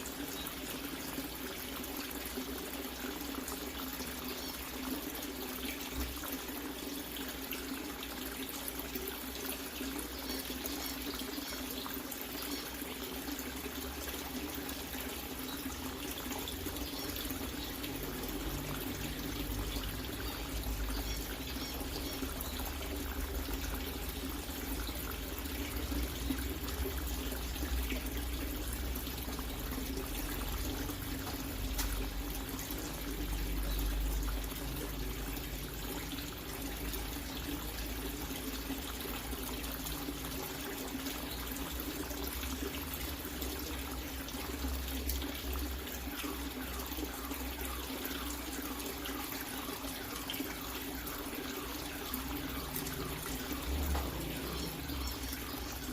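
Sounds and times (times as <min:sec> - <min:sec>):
water running and splashing: 0:00.0 - 0:55.9.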